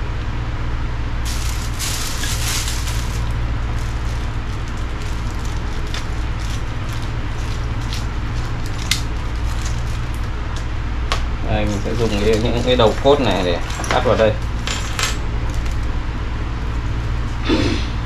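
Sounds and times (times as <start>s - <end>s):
steady low hum: 0.0s - 18.0s
crackling rustling handling noise: 1.2s - 17.4s.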